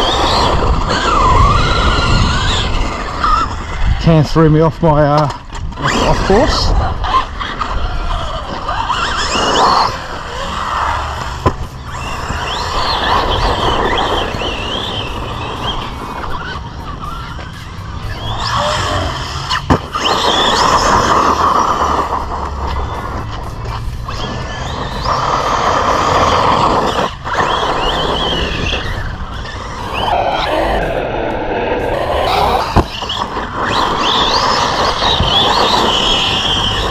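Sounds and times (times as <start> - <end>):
electric motor whining: 0.0 - 4.6, 5.2 - 36.9
tyre and drivetrain rush: 0.0 - 36.9.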